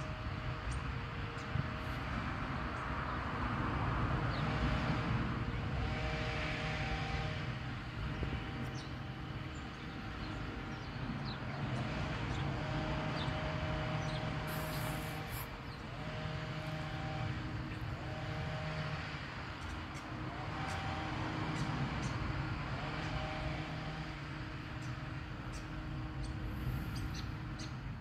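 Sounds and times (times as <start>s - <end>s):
distant jet engine roar: 0.0s - 28.0s.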